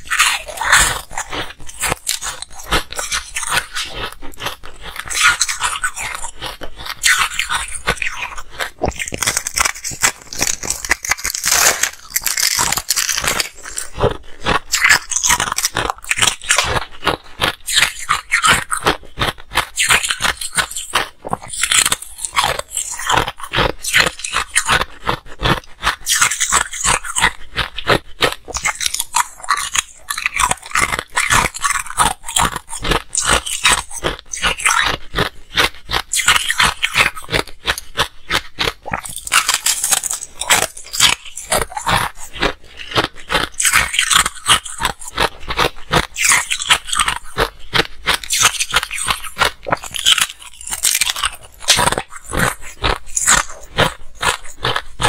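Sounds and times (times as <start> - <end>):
ice crunching and chewing: 0.0 - 55.0.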